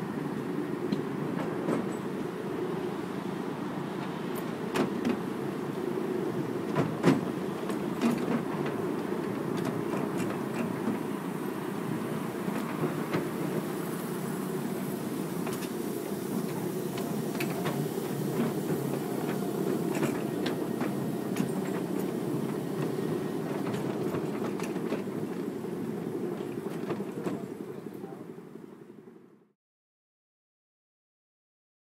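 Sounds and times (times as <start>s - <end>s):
train wheels rumbling on track: 0.0s - 28.7s.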